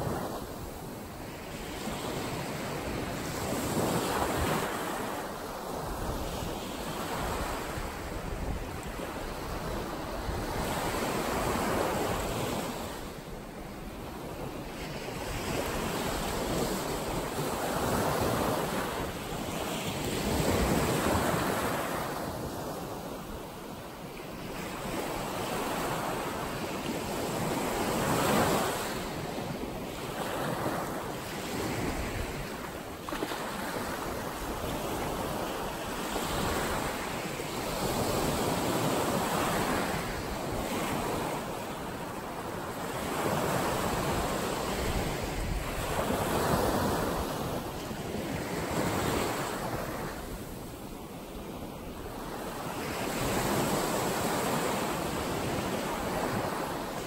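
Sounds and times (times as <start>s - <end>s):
waves washing up a sandy beach: 0.0s - 57.0s.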